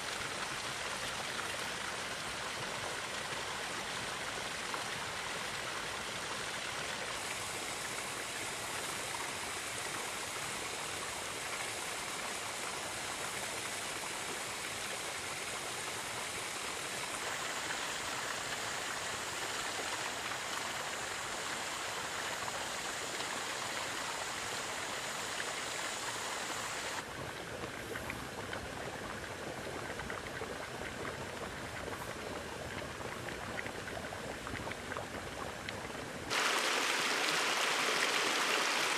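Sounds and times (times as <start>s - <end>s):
spring pool bubbling: 0.0s - 38.9s
stream spilling over rocks: 0.0s - 38.9s.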